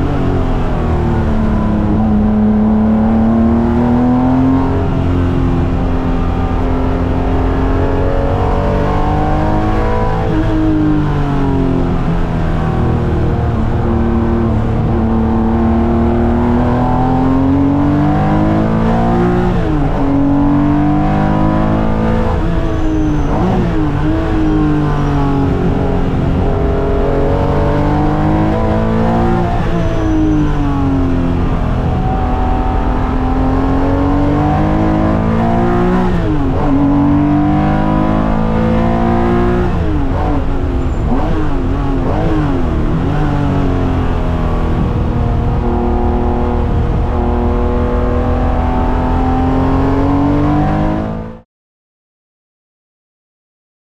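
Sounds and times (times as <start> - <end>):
race car engine revving: 0.0 - 51.4.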